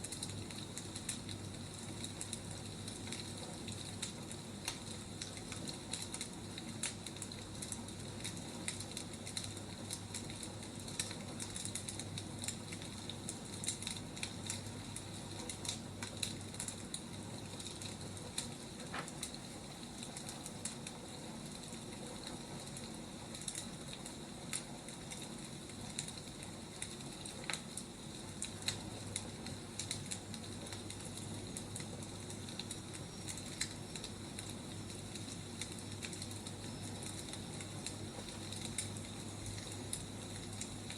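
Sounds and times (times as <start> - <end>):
firewood crackling: 0.0 - 40.9.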